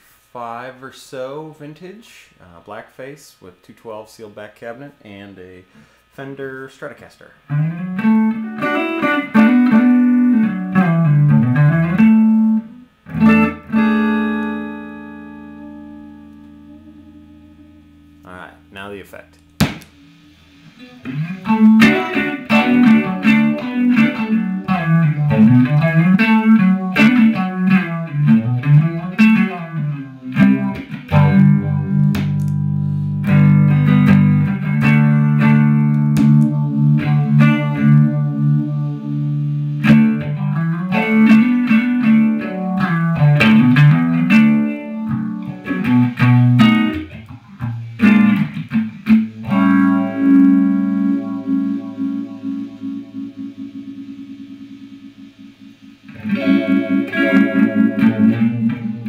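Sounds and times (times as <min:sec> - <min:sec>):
electric guitar with phaser: 0:07.5 - 0:59.0.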